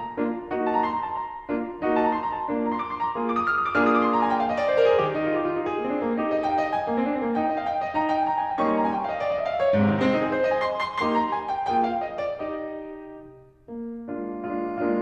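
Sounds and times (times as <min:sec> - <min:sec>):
solo piano classical piece: 0:00.0 - 0:15.0.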